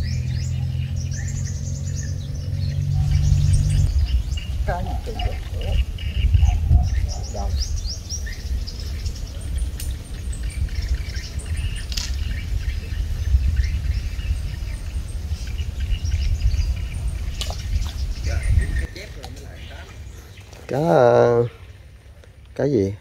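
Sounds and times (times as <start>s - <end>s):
steady low rumble: 0.0s - 20.4s
small birds chirping: 0.0s - 23.0s.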